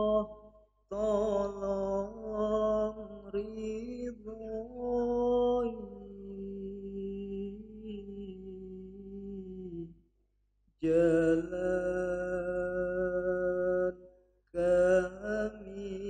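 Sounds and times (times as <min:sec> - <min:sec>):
man chanting into microphone: 0:00.9 - 0:09.8, 0:10.8 - 0:13.9, 0:14.6 - 0:16.0.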